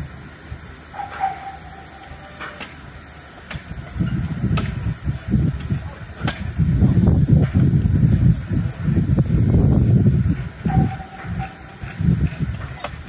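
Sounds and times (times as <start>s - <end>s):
steam locomotive low rumble: 0.0s - 13.0s.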